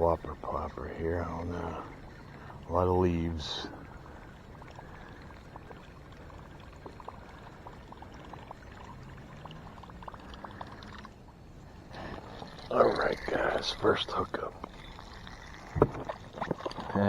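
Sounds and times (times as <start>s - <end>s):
river water gurgling: 0.0s - 17.0s.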